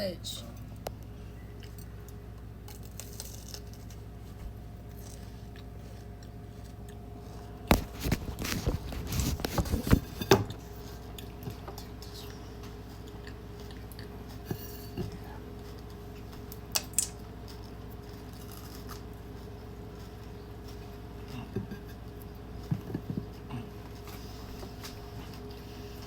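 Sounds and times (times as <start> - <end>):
faint steady hum: 0.0 - 26.0
crunchy chewing: 0.6 - 14.5, 15.2 - 26.0.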